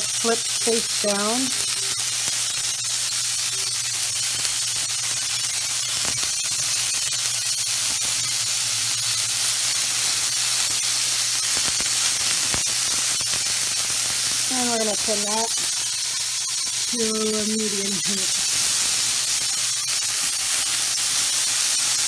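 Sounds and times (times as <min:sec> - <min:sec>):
sausage sizzling in a frying pan: 0:00.0 - 0:22.0.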